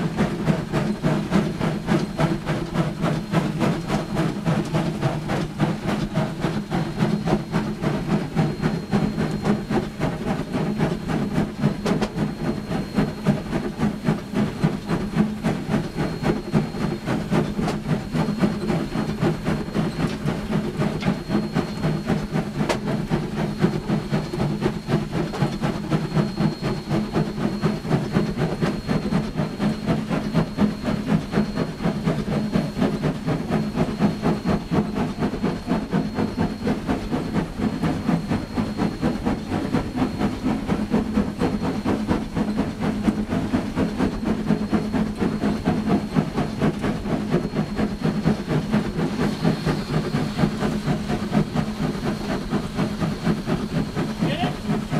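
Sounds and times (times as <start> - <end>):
steam hissing: 0.0 - 54.9
steam locomotive exhaust beat: 0.0 - 54.9.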